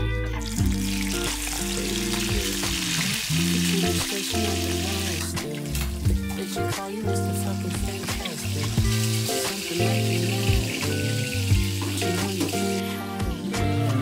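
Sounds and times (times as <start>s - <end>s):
background music: 0.0s - 14.0s
fish sizzling in hot oil: 0.4s - 6.0s, 7.1s - 13.6s.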